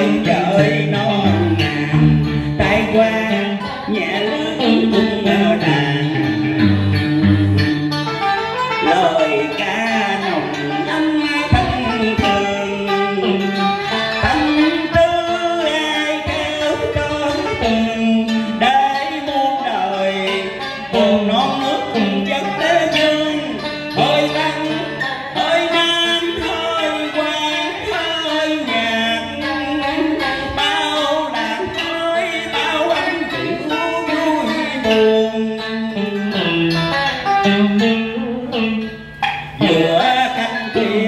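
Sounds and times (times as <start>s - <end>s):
electric guitar: 0.0s - 41.0s
man singing: 0.0s - 41.0s
plucked zither: 0.0s - 41.0s.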